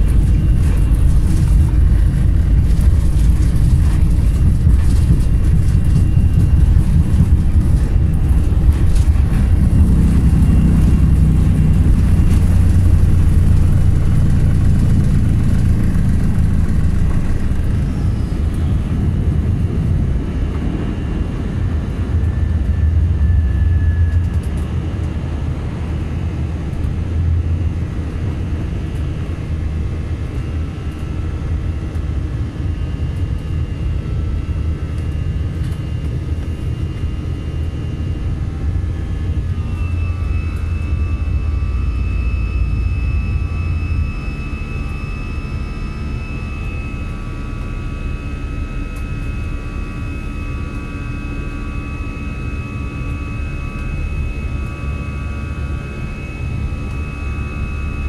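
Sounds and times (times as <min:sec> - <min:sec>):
airliner engine rumble in cabin: 0:00.0 - 0:58.0.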